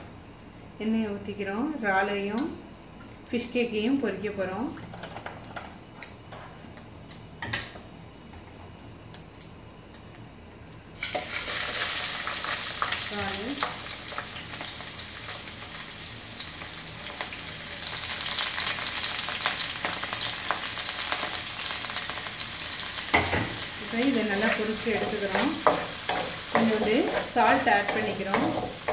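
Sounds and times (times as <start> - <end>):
food sizzling in hot oil: 4.2 - 28.9.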